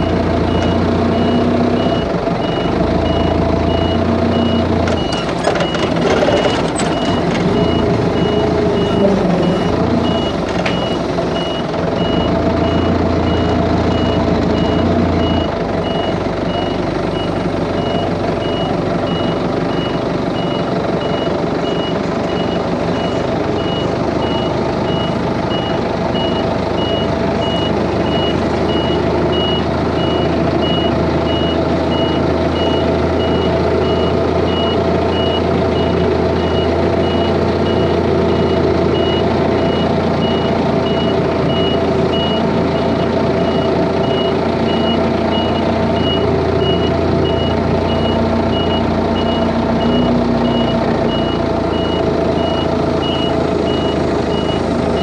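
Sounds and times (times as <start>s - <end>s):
forklift backup alarm beeping: 0.0s - 55.0s
forklift engine running: 0.0s - 55.0s.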